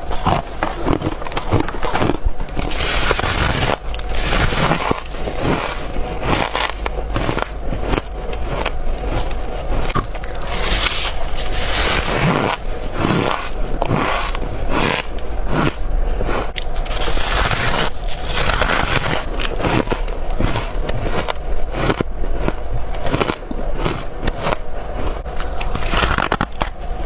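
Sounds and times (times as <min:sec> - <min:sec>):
frost being crunched and chewed: 0:00.0 - 0:26.9.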